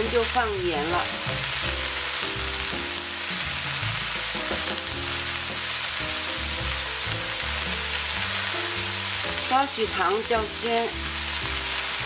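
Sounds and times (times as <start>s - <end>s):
background music: 0.0s - 12.0s
sprouts sizzling in frying pan: 0.0s - 12.0s.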